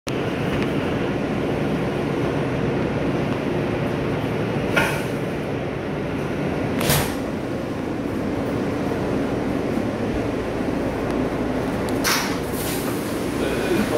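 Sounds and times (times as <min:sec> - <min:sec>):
subway car rumbling: 0:00.1 - 0:13.9.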